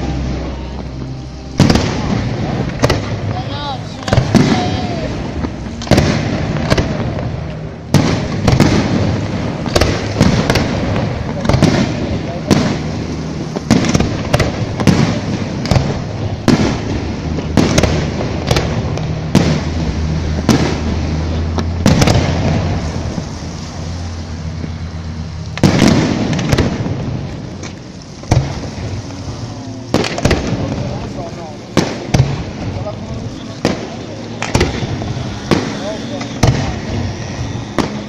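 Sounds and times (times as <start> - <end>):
continuous rumble: 0.0 - 38.0
fireworks bursting with sharp bangs: 0.0 - 38.0.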